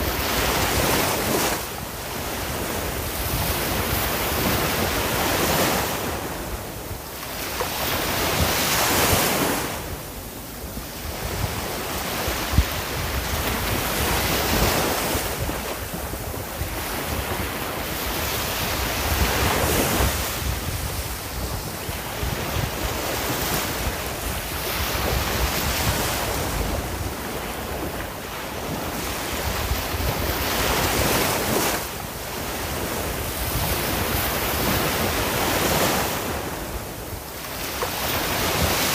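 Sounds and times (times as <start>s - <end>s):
ocean waves breaking on shore: 0.0s - 38.9s
wind on microphone: 0.0s - 38.9s.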